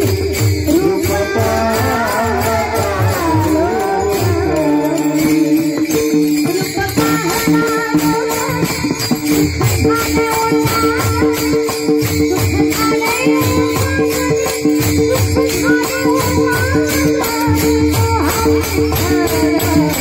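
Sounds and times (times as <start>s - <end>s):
hand cymbals clashing: 0.0s - 20.0s.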